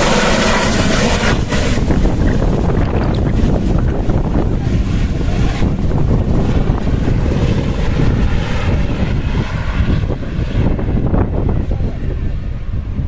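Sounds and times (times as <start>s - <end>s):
helicopter flying overhead: 0.0s - 13.0s.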